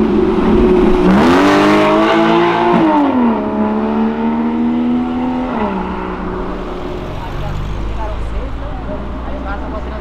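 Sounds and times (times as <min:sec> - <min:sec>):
car engine accelerating past: 0:00.0 - 0:08.3.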